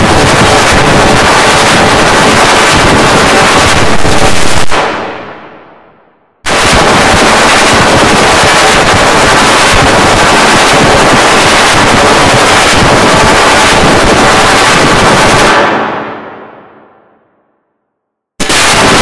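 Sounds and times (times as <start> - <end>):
loud distorted crackling noise: 0.0 - 5.4, 6.4 - 16.4, 18.4 - 19.0.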